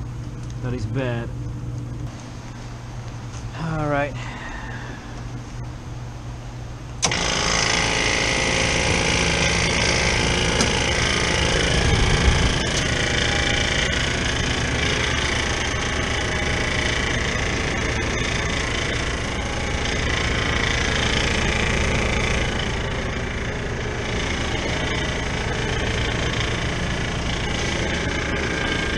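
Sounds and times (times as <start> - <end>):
refrigeration unit running: 0.0 - 28.9.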